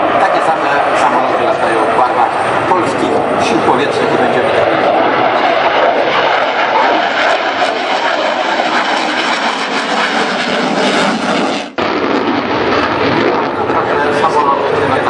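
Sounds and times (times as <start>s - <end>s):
fighter jet engine noise: 0.0s - 15.0s.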